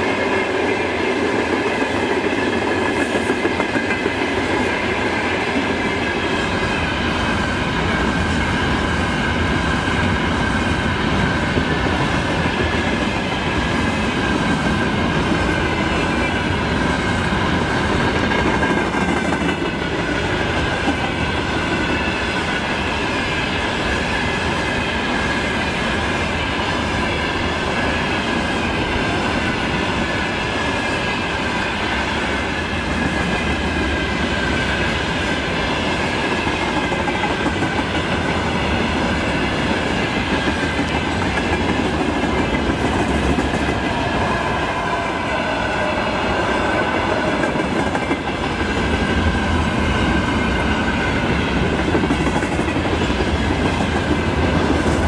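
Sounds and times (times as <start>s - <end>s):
freight train rumble and wheel clatter: 0.0s - 55.0s.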